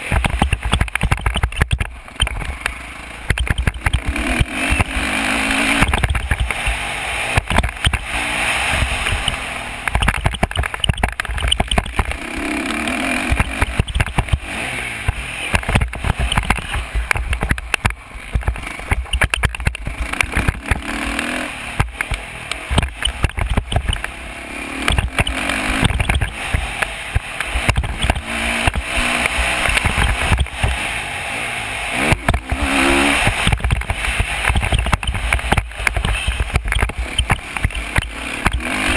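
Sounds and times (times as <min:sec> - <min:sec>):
off-road engine revving: 0:00.0 - 0:38.9.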